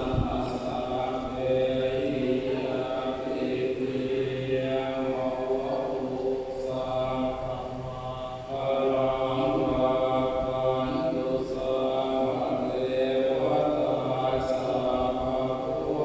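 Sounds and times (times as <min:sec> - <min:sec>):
monks chanting: 0:00.0 - 0:16.0.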